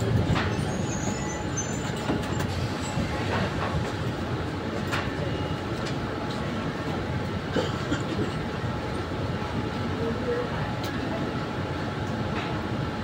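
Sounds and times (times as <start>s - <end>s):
train wheels rolling on track: 0.0s - 13.0s.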